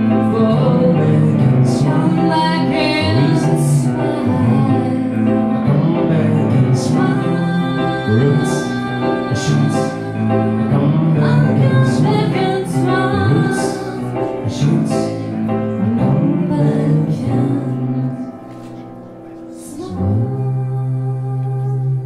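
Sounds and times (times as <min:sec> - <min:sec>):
woman singing: 0:00.0 - 0:18.4, 0:19.5 - 0:22.0
piano accompaniment: 0:00.0 - 0:22.0.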